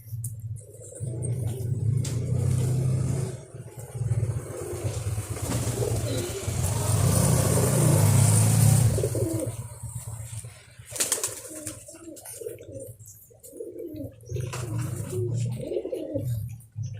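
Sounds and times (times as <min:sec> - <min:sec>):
pigeons cooing: 0:00.5 - 0:16.9.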